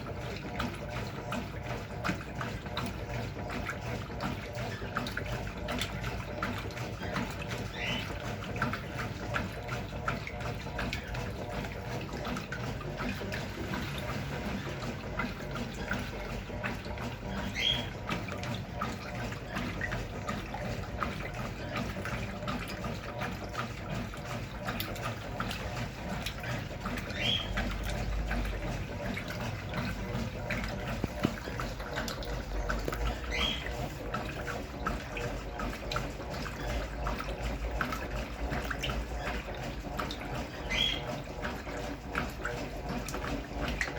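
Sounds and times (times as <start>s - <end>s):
water rushing into washing machine: 0.0s - 43.9s.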